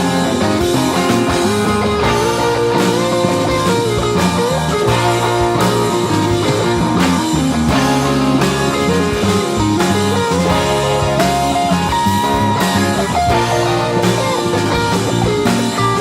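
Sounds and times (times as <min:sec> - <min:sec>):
bass: 0:00.0 - 0:16.0
drum kit: 0:00.0 - 0:16.0
melodic guitar lead line: 0:00.0 - 0:16.0.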